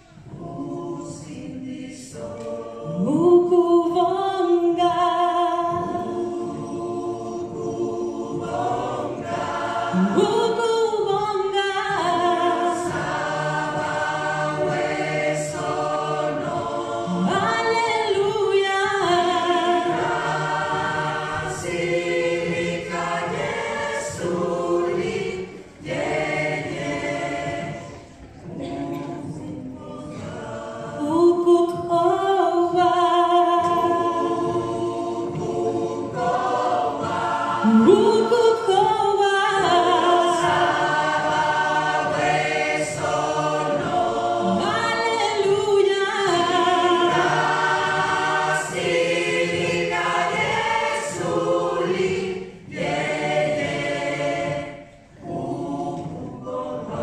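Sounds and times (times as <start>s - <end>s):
gospel choir singing unaccompanied: 0.0s - 57.0s.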